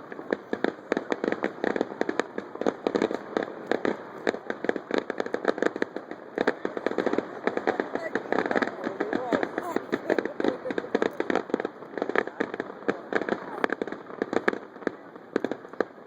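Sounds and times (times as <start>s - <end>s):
fireworks popping and banging: 0.0s - 16.0s.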